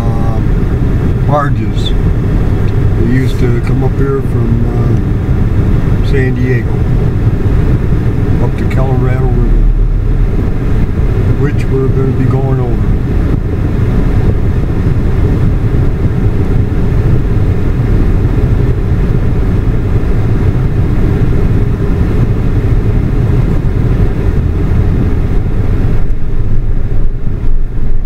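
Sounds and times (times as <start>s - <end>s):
car engine low rumble: 0.0s - 28.0s.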